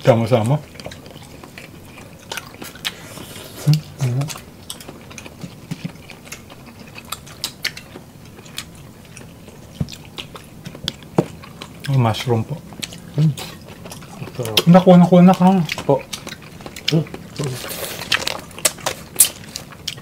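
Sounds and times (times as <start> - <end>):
people chewing and smacking: 0.0 - 20.0.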